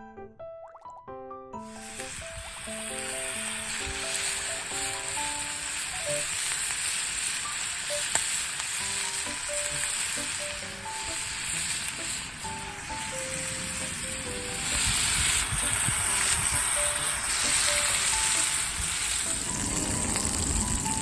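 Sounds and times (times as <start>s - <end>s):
soft background music: 0.0s - 21.0s
food sizzling in a pan: 1.6s - 21.0s.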